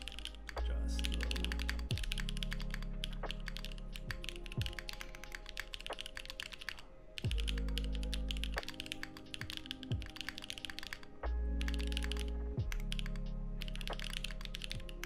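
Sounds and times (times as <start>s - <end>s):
background music: 0.0s - 15.0s
fast mechanical keyboard typing: 0.0s - 15.0s.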